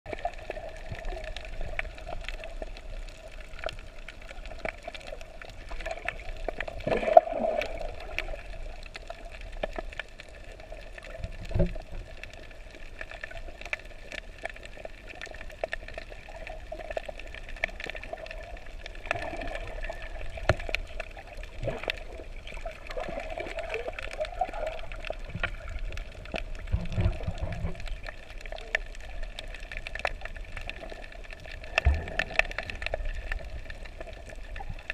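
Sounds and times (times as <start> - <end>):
clicks and crackles: 0.1 - 34.9
underwater hiss and gurgle: 0.1 - 34.9.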